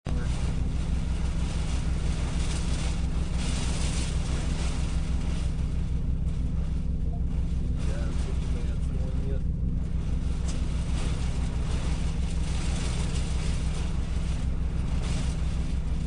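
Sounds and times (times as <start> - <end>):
steady deep rumble: 0.0 - 16.0.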